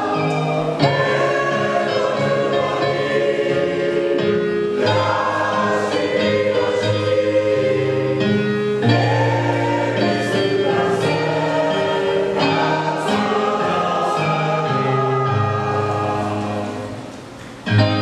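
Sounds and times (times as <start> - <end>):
mixed choir singing: 0.0 - 17.4.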